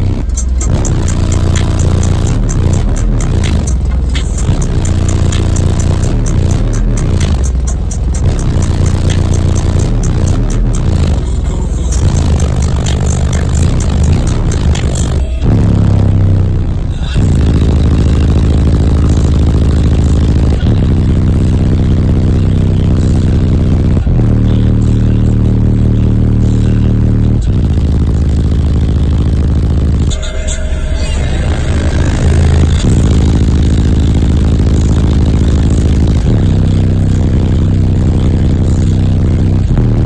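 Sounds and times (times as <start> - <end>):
loud deep bass from subwoofers: 0.0 - 40.0.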